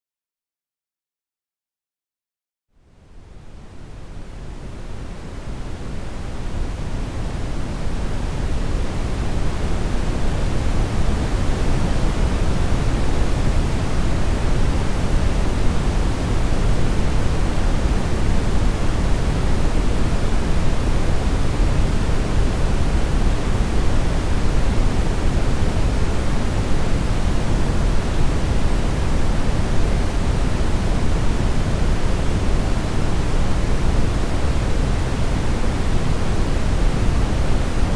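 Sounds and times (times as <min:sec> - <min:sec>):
deep brown noise hiss: 0:03.0 - 0:37.9.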